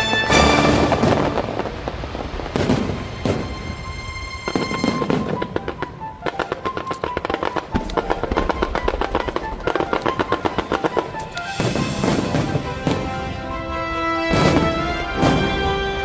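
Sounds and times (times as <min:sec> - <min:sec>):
fireworks bangs: 0:00.0 - 0:16.0
fireworks crackling: 0:00.0 - 0:16.0
music playing: 0:00.0 - 0:16.0.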